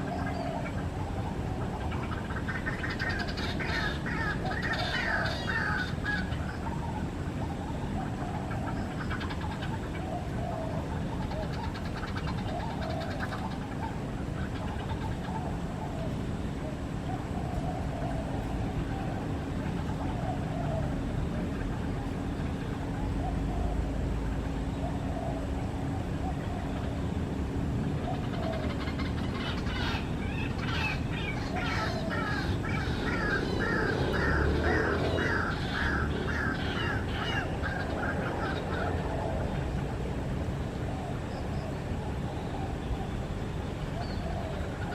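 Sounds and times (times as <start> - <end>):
waterhen calling: 0.0 - 26.9, 28.0 - 40.0.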